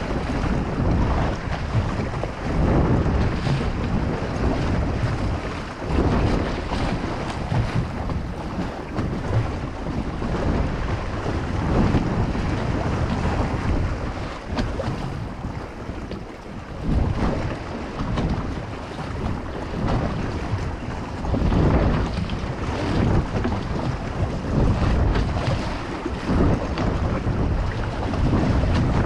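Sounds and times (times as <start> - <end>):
water slapping against boat hull: 0.0 - 29.0
wind buffeting microphone: 0.0 - 29.0.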